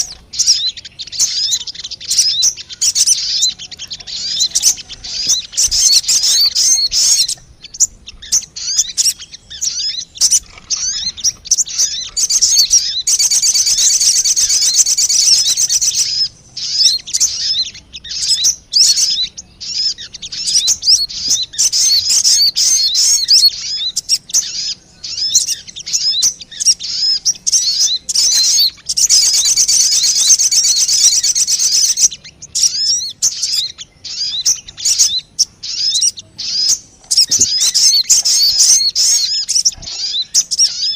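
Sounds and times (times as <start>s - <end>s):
birds chirping and twittering: 0.0s - 40.9s
birds trilling: 0.0s - 40.9s.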